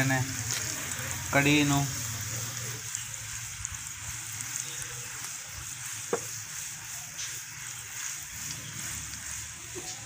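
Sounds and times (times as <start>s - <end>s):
hot oil sizzling in a pan: 0.0s - 10.0s
small crackles: 0.0s - 10.0s.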